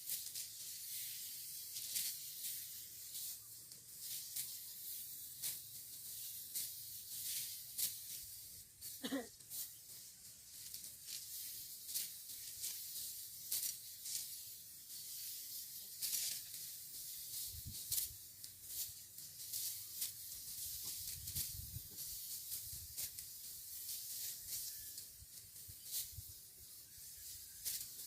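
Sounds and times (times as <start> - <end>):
dry rice stalks rustling: 0.0 - 28.0.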